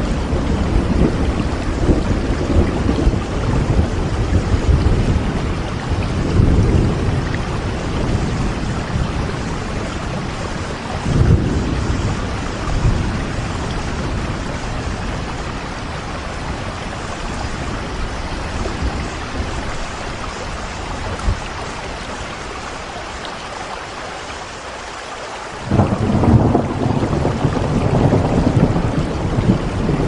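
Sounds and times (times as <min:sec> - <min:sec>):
thunder rumbling: 0:00.0 - 0:23.0, 0:25.6 - 0:30.0
rain hissing: 0:00.0 - 0:30.0.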